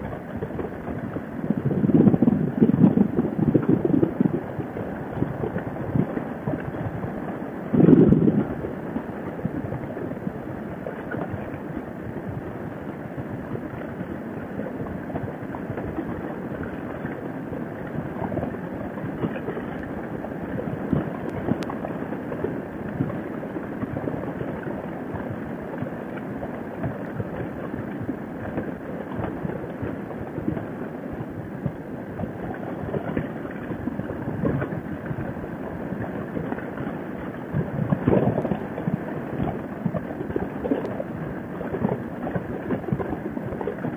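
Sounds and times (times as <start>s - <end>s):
wind noise: 0.0s - 43.9s.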